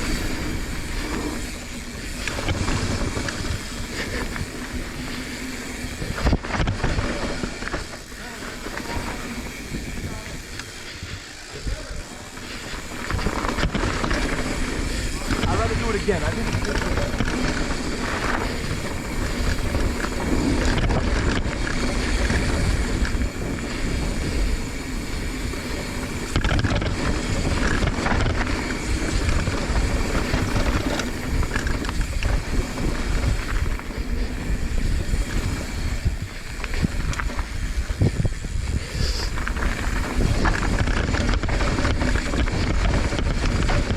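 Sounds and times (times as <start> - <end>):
bike knocks and rattles: 0.0 - 11.0, 11.6 - 43.9
bike tyre rumble: 0.0 - 43.9
wind buffeting microphone: 0.0 - 43.9.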